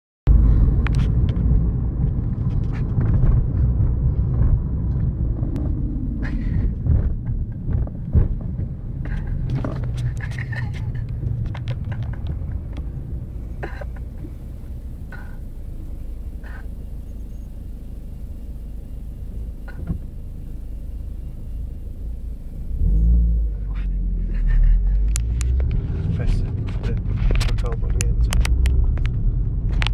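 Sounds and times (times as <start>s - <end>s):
road noise rumble: 0.3s - 29.9s.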